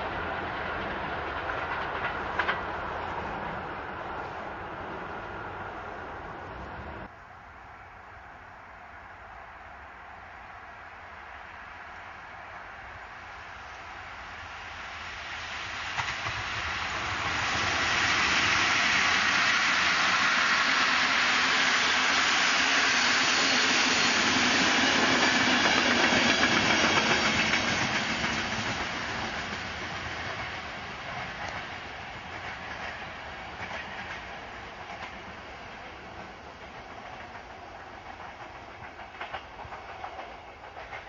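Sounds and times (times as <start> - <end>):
train wheels rattling on rails: 0.0 - 7.1, 13.4 - 41.0.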